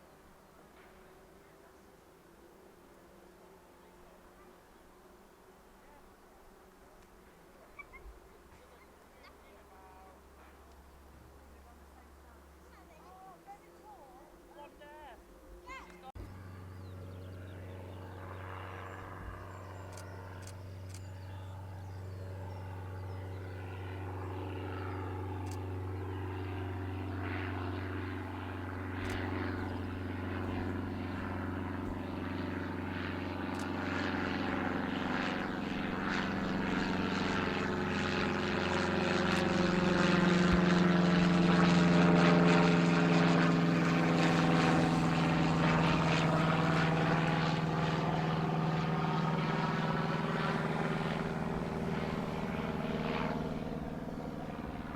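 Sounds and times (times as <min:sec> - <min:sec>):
aircraft engines droning: 0:00.0 - 0:54.9.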